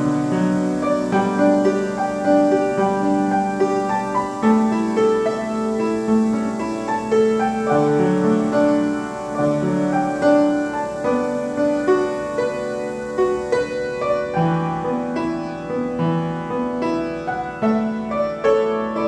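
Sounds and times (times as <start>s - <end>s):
piano playing slow melody: 0.0s - 19.0s.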